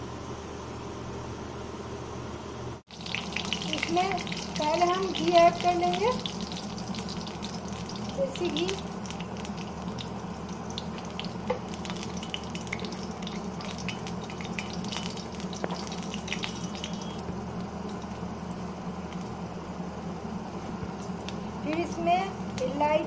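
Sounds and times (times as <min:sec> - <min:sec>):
low steady hum: 0:00.0 - 0:23.0
ghee sizzling and crackling: 0:02.9 - 0:23.0.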